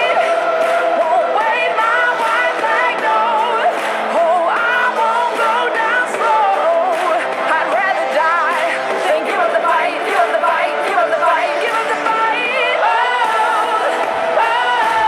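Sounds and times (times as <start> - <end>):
pop-rock song with vocals: 0.0 - 15.0.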